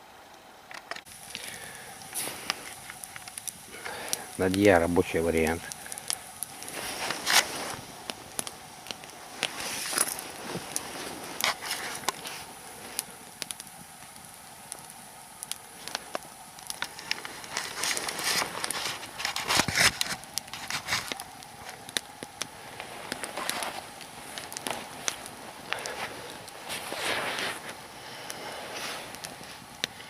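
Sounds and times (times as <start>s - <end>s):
faint fire hiss: 0.0s - 30.0s
log fire crackling and popping: 0.2s - 30.0s.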